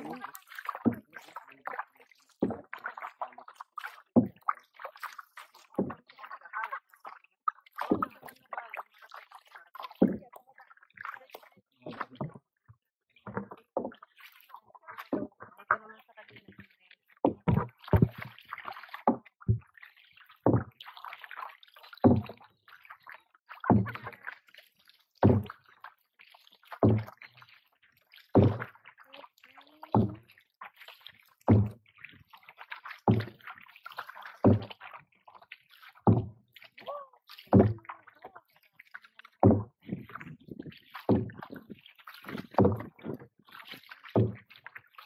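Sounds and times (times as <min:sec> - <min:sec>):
paddle splashing into water: 0:00.0 - 0:12.5, 0:13.2 - 0:45.0
water swishing and dripping: 0:00.0 - 0:45.0.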